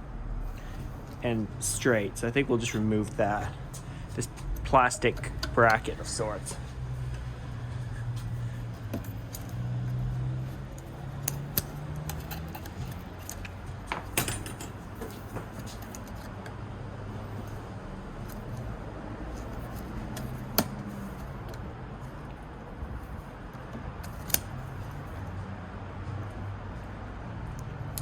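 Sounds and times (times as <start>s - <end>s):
steady low hum: 0.0s - 27.3s.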